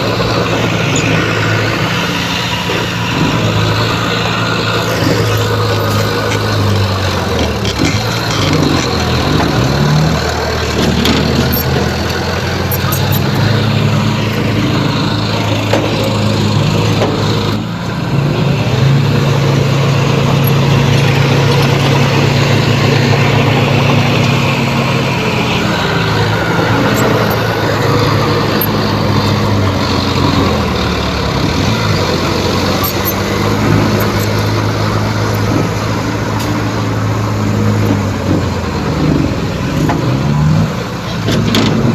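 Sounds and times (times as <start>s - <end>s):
heavy diesel engine under load: 0.0s - 41.9s.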